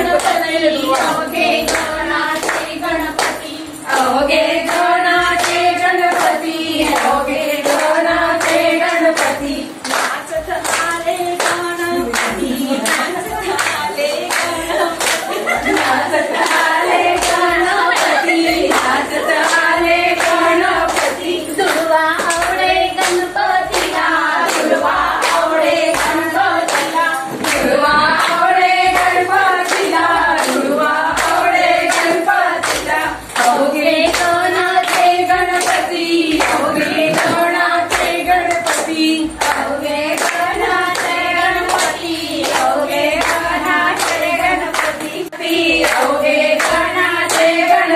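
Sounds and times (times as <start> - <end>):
hands clapping: 0.0 - 47.9
women singing together: 0.0 - 47.9.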